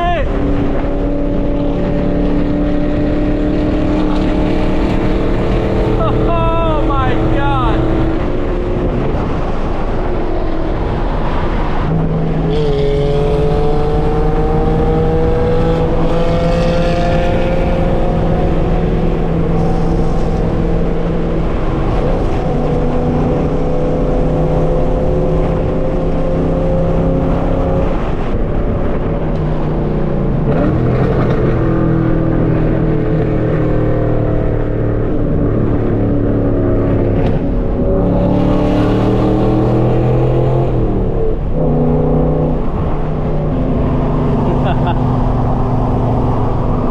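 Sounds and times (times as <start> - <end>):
car exhaust roaring: 0.0 - 46.9.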